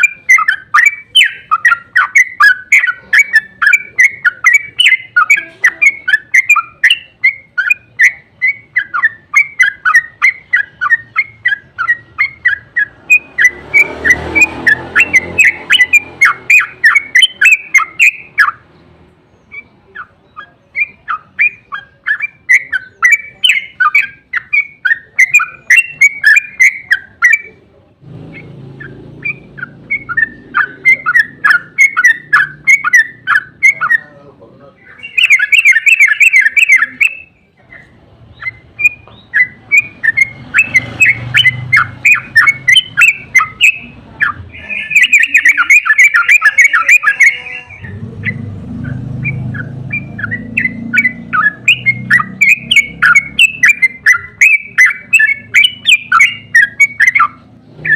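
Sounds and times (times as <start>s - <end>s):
bird singing chattering song: 0.0s - 57.9s.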